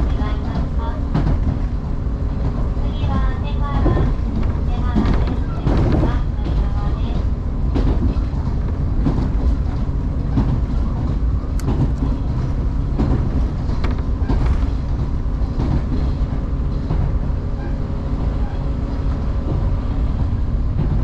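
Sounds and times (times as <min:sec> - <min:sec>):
train rumble inside carriage: 0:00.0 - 0:21.0
wheels clicking over rail joints: 0:00.0 - 0:21.0.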